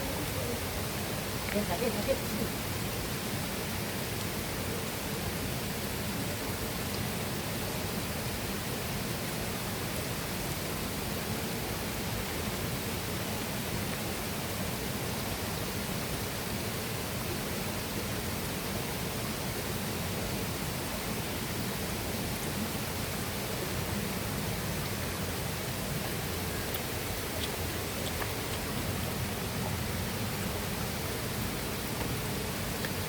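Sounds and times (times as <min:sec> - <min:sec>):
river and waterfall rushing: 0:00.0 - 0:33.0.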